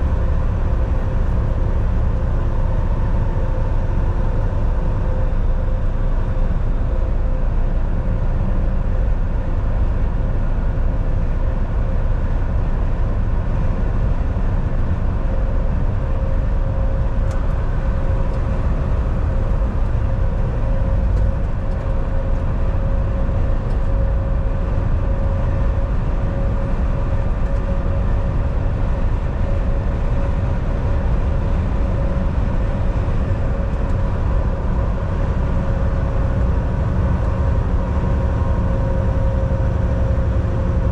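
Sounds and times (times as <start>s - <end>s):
constant whine: 0.0s - 40.9s
heavy road rumble: 0.0s - 40.9s
truck engine drone: 0.0s - 40.9s.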